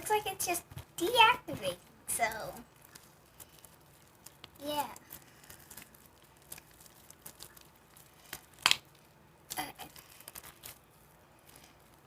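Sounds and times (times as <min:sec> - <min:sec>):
slime crackles and squishes: 0:00.0 - 0:12.0.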